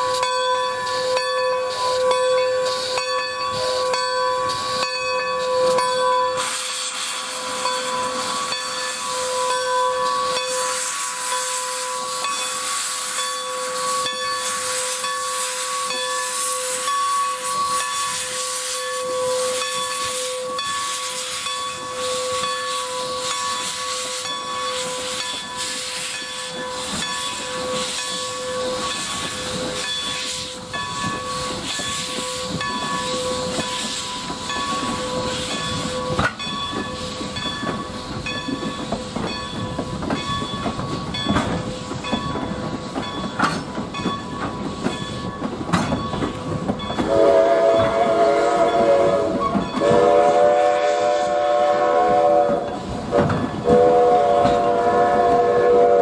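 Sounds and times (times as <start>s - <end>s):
steam hissing: 0.0s - 56.0s
train wheels clicking on rail joints: 0.0s - 56.0s.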